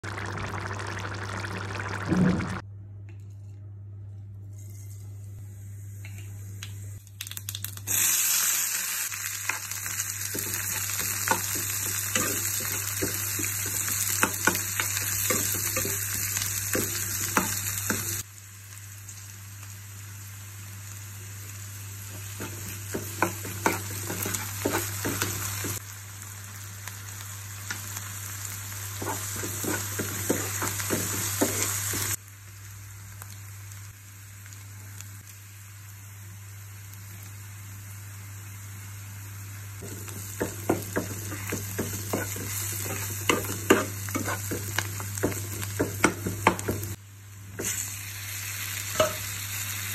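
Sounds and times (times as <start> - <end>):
oil sizzling in a frying pan: 0.0 - 2.6, 6.6 - 49.9.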